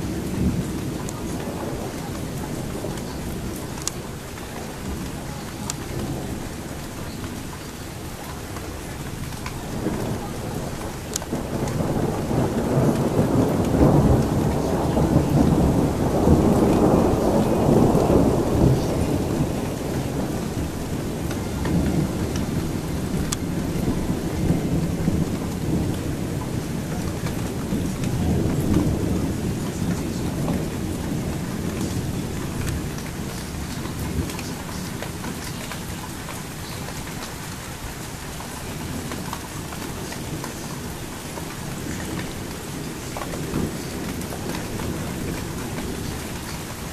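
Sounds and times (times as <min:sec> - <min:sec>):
thunder rolling: 0:00.0 - 0:07.4, 0:09.0 - 0:46.9
steady rain: 0:00.0 - 0:46.9.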